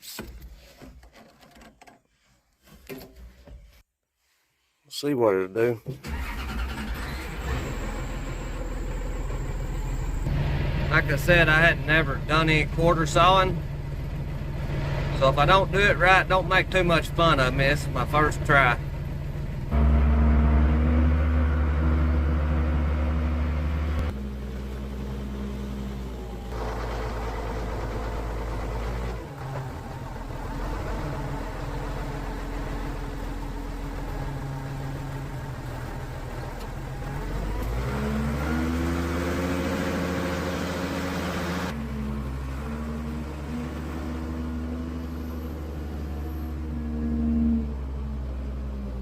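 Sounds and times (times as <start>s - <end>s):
engine idling and revving: 6.1s - 49.0s.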